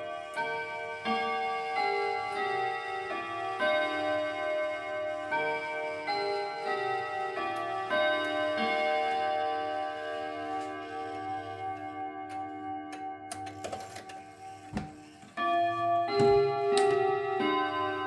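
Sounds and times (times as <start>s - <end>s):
chime clock melody: 0.0s - 18.0s.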